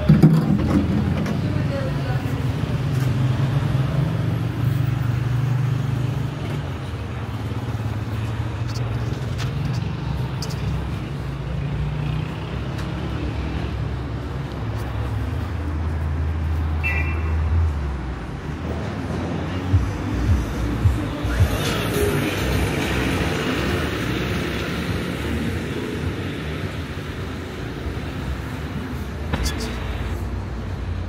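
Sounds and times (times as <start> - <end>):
car engines in traffic: 0.0 - 31.0.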